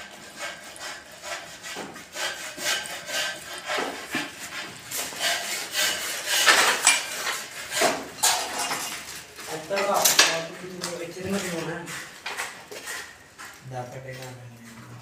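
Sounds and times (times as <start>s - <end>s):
plaster scraping in metal bucket: 0.0s - 13.2s.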